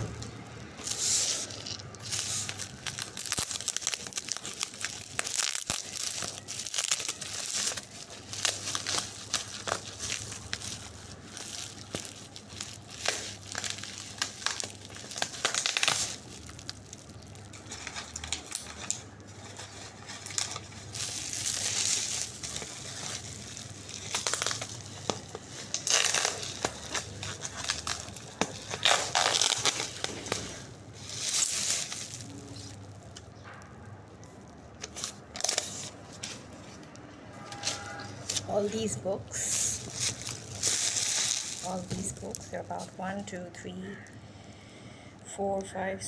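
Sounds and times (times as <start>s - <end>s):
cardboard and paper rustling: 0.8s - 33.6s, 34.8s - 43.7s.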